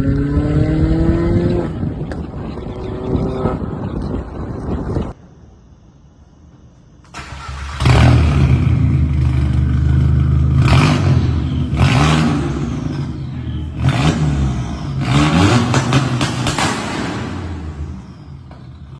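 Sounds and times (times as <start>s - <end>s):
car engine revving: 0.0s - 5.1s, 7.2s - 18.9s.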